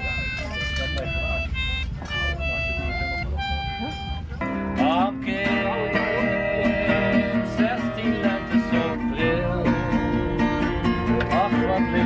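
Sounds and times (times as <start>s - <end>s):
acoustic guitar strumming: 0.8s - 12.0s.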